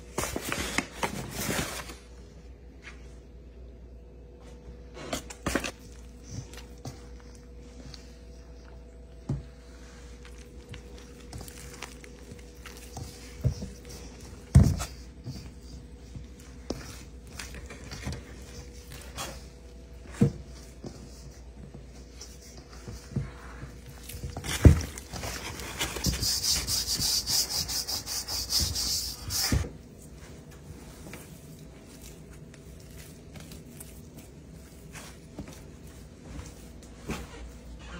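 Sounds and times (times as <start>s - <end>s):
hand mixing dough in bowl: 5.0s - 37.9s.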